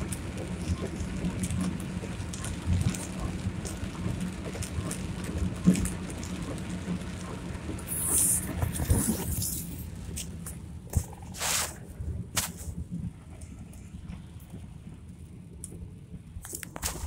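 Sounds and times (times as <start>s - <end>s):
rain: 0.0s - 17.0s.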